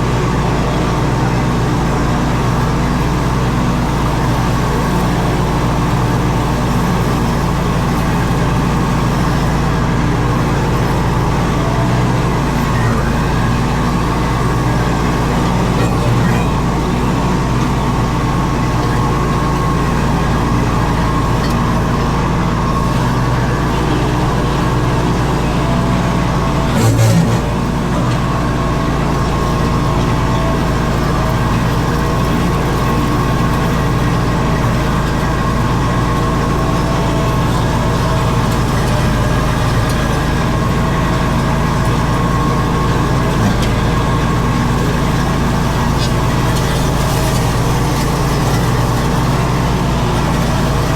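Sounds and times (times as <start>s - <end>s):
mower engine running: 0.0s - 50.9s.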